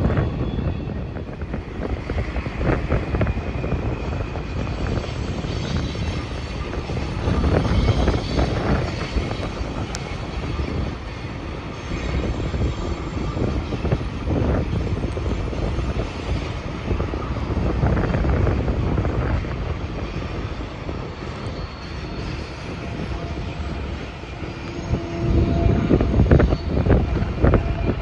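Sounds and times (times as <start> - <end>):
distant freight train rumbling: 0.0 - 28.0.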